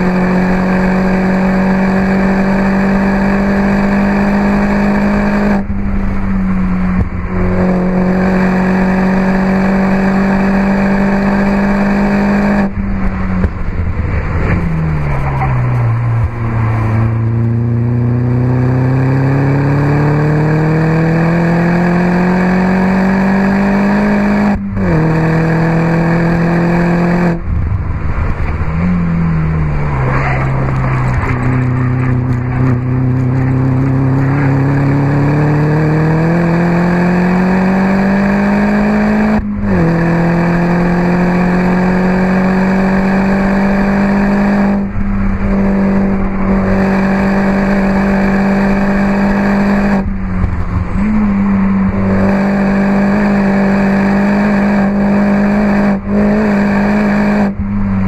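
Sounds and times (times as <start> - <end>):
car engine revving hard: 0.0 - 5.7, 6.5 - 12.8, 16.2 - 27.5, 28.6 - 58.0.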